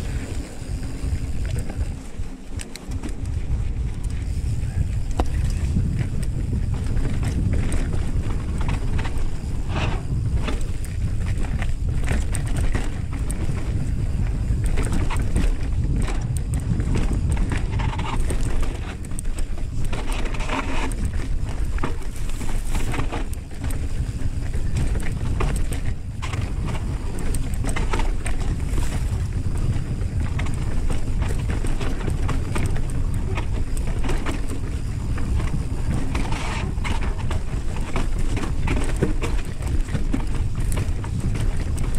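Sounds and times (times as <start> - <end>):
bike rattling: 0.0 - 41.9
tyres crunching on dirt: 0.0 - 41.9
wind buffeting microphone: 0.0 - 41.9.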